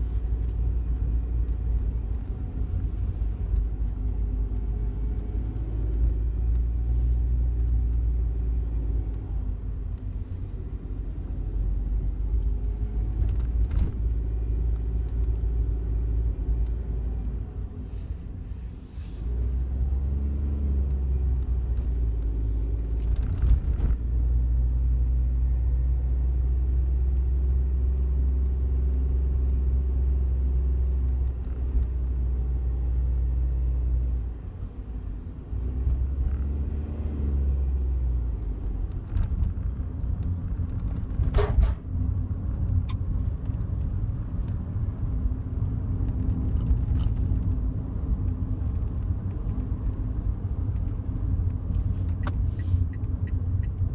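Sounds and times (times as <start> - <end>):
car engine drone: 0.0 - 53.9
road noise: 0.0 - 53.9.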